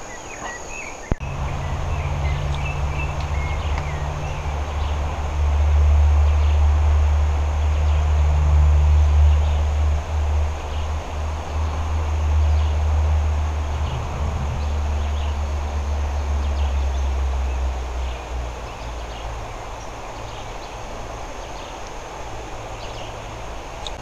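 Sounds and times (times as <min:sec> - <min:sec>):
low rumble: 0:01.2 - 0:21.2.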